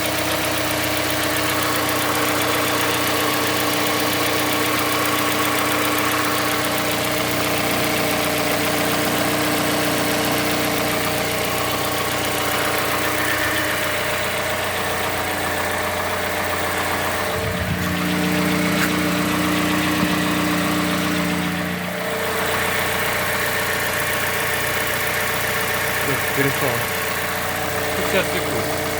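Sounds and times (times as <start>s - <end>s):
car engine idling: 0.0s - 28.9s
engine knock: 0.0s - 28.9s.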